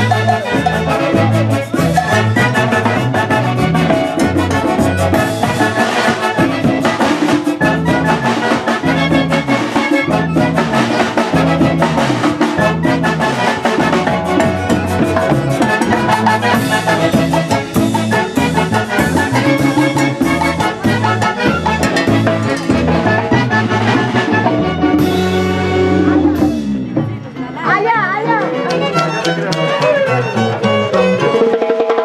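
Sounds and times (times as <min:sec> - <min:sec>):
upbeat latin dance music: 0:00.0 - 0:32.0.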